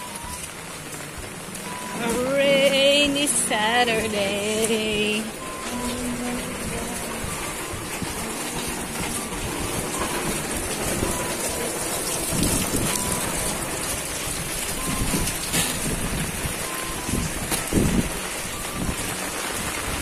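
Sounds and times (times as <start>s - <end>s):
low rumbles: 0.0s - 20.0s
steady rain falling: 0.0s - 20.0s.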